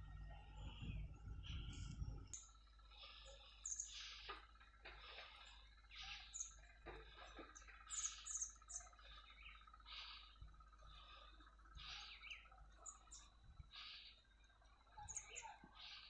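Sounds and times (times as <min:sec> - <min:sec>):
faint steady tone: 0:00.0 - 0:16.0
small birds chirping: 0:00.0 - 0:16.0.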